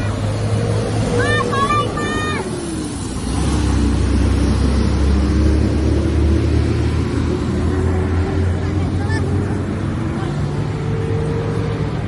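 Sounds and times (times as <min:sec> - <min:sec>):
diesel bus engine rumbling: 0:00.0 - 0:12.0
road noise: 0:00.0 - 0:12.0.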